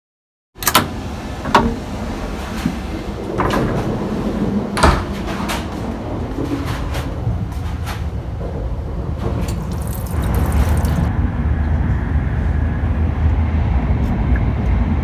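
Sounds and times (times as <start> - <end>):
steady low rumble: 0.9 - 15.0.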